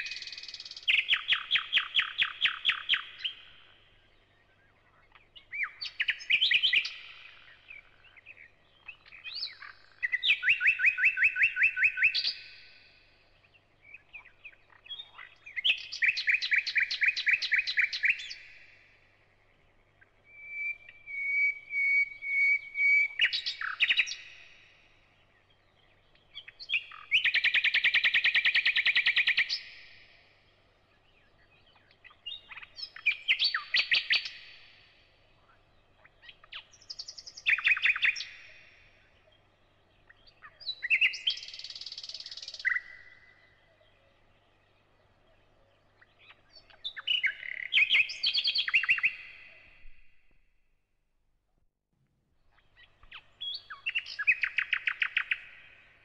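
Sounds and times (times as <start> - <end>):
songbird trilling: 0.0 - 12.8, 13.8 - 18.8, 20.0 - 30.1, 31.0 - 34.8, 35.4 - 49.7, 52.5 - 56.0.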